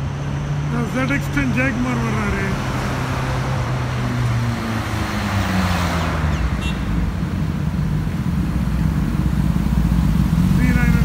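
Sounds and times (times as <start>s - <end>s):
highway traffic passing: 0.0s - 11.0s
motorcycle engines approaching: 0.0s - 11.0s
vehicle passing close: 0.0s - 11.0s.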